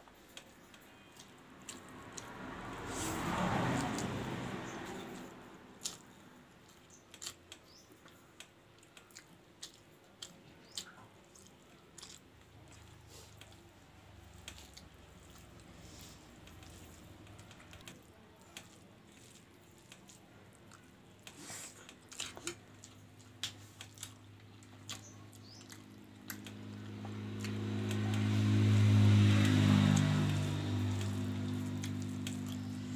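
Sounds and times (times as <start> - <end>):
chewing: 0.1 - 32.9.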